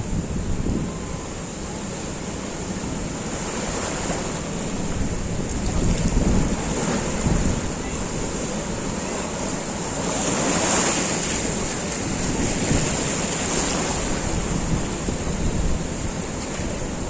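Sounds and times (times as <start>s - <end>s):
wind buffeting microphone: 0.0s - 1.6s, 2.8s - 17.0s
surf breaking on beach: 0.0s - 17.0s.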